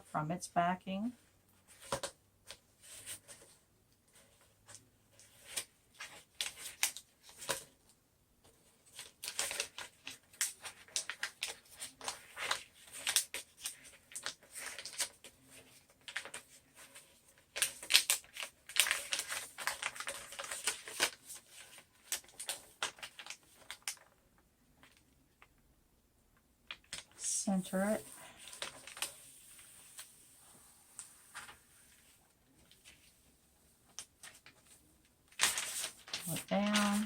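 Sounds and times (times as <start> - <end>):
paper crackling and crinkling: 1.7 - 24.2, 26.7 - 37.0.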